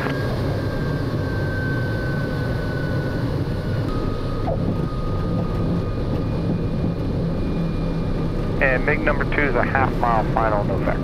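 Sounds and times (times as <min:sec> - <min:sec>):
jet engine rumble and whine: 0:00.0 - 0:11.0.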